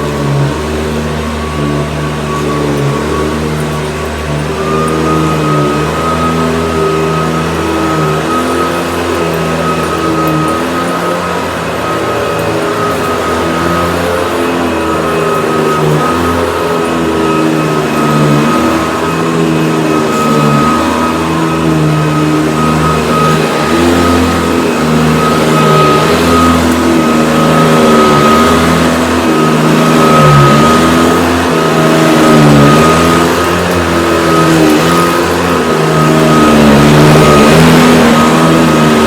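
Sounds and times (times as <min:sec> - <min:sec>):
upright vacuum cleaner running: 0:00.0 - 0:39.0.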